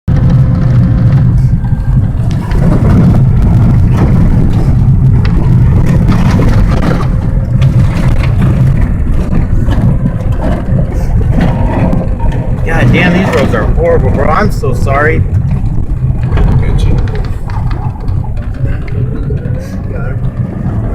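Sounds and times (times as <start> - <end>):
vehicle engine and tyres rumbling: 0.0 - 20.9
knocks and thuds: 0.1 - 20.9.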